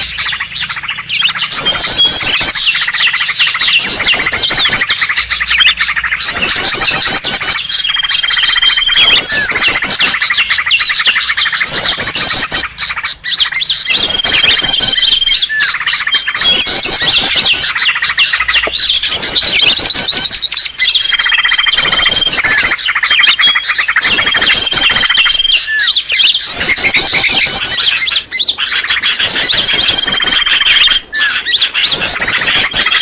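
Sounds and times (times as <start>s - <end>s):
bird chattering and whistling: 0.0s - 33.0s.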